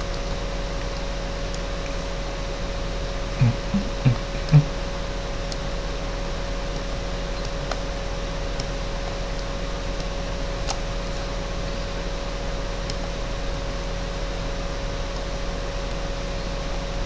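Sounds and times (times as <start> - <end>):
constant mid-pitched tone: 0.0 - 14.1
low electrical hum: 0.0 - 17.0.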